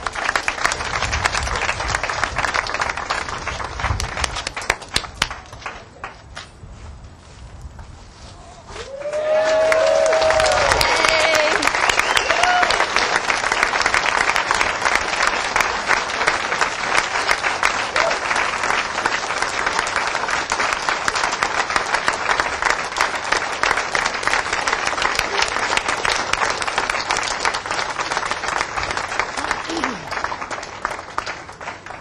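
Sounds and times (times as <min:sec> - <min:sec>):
crowd applauding: 0:00.0 - 0:06.2, 0:08.8 - 0:32.0.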